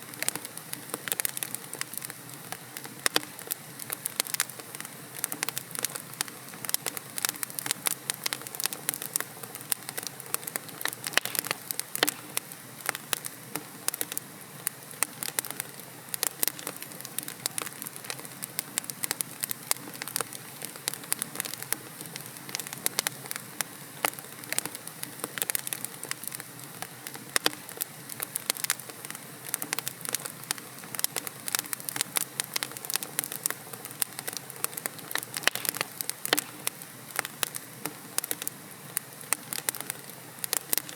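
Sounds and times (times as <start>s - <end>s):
logs crackling in a fireplace: 0.0s - 40.9s.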